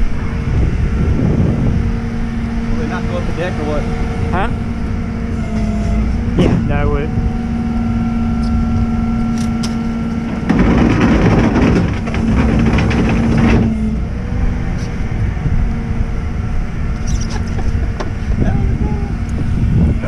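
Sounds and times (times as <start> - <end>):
rough rushing noise: 0.0 - 18.6
truck engine idling: 0.0 - 20.0.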